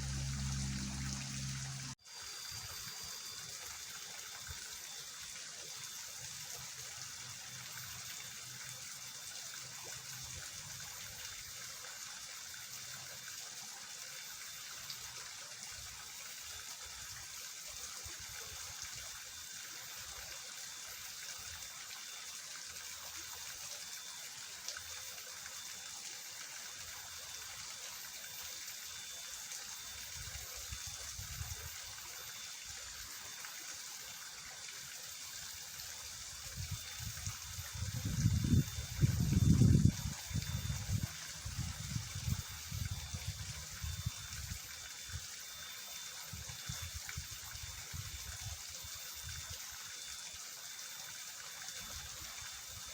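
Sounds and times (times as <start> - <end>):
rushing water in ditch: 0.0 - 52.9.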